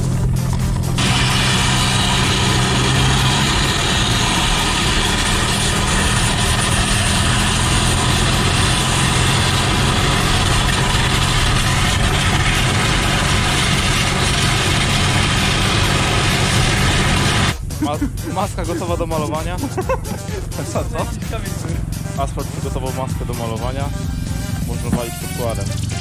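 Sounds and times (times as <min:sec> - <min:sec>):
metal dragged scraping on asphalt: 0:00.0 - 0:17.6, 0:20.6 - 0:26.0
car engine running: 0:00.0 - 0:26.0
road noise: 0:00.0 - 0:26.0.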